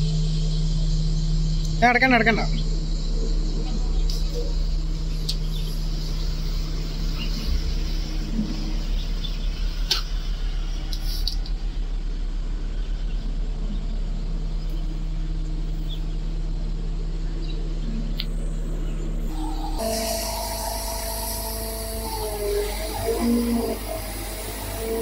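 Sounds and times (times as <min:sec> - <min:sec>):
crane engine running: 0:00.0 - 0:25.0.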